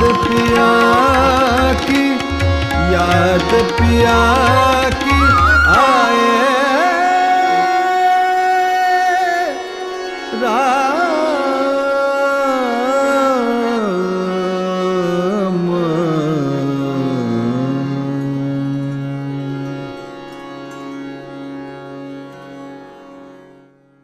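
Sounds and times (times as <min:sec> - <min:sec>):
man singing held ornamented notes: 0:00.0 - 0:20.1
harmonium: 0:00.0 - 0:24.0.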